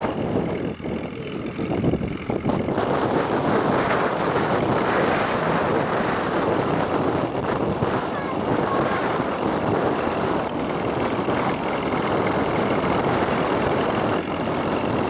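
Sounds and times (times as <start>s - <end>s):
tractor engine running: 0.0s - 15.0s
wind on microphone: 0.0s - 15.0s.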